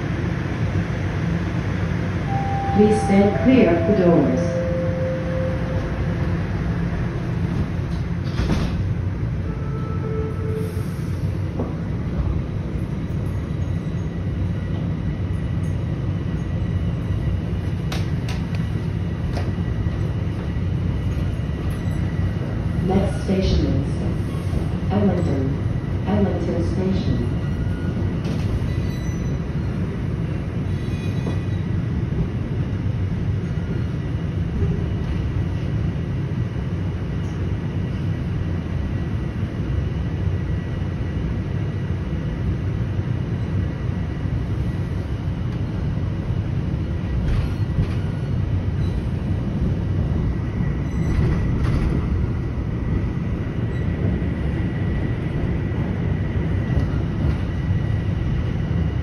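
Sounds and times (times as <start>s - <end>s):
low rumble of train wheels on rail: 0.0s - 59.0s.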